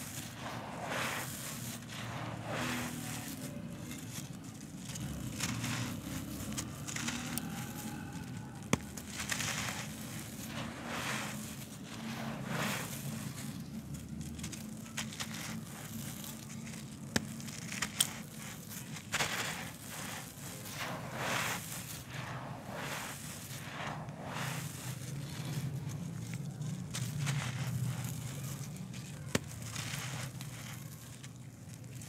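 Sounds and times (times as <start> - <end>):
grit and dust pouring: 0.0 - 32.0
hands crumbling gritty lumps: 0.0 - 32.0.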